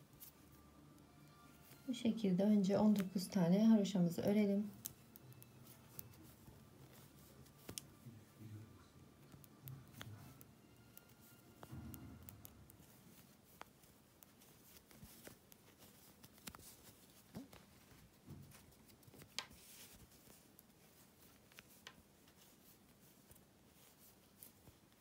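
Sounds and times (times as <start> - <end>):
knitting needles clicking: 0.0 - 8.0, 9.1 - 25.0
yarn handling: 0.0 - 25.0.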